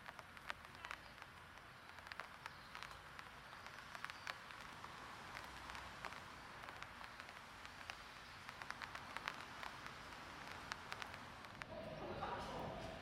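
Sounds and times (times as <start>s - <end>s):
faint steady hiss: 0.0s - 13.0s
raindrops ticking: 0.0s - 13.0s.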